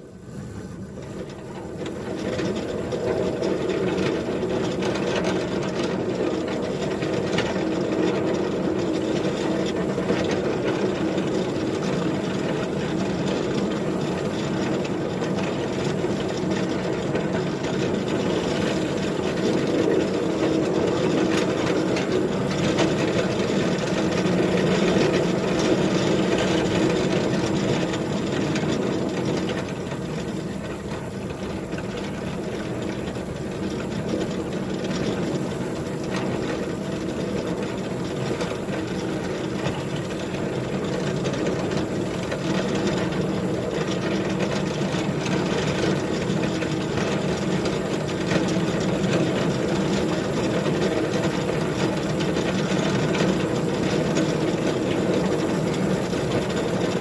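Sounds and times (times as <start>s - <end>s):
small locomotive engine running: 0.0s - 57.0s.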